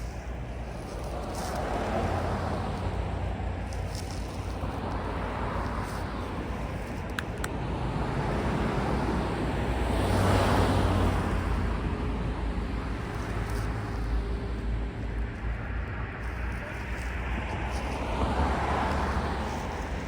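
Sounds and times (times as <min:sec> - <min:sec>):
low engine hum: 0:00.0 - 0:20.0
vehicle passing: 0:00.0 - 0:20.0.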